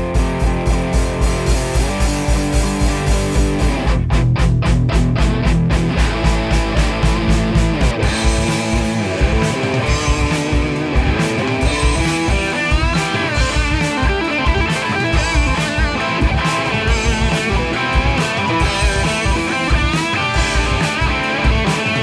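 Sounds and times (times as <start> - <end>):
drum kit beat: 0.0 - 22.0
electric guitar melody: 0.0 - 22.0.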